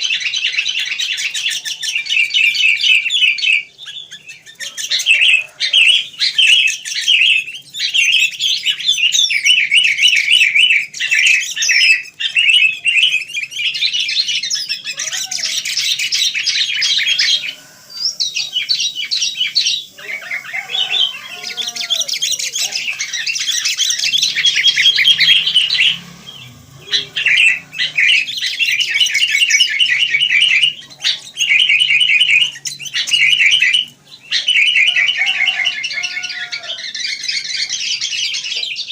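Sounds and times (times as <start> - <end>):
birds chirping rapidly: 0.0 - 38.9.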